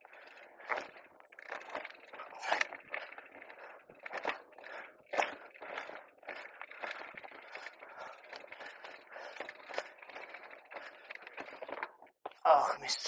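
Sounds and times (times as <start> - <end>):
bike rattling and clicking: 0.0 - 12.1.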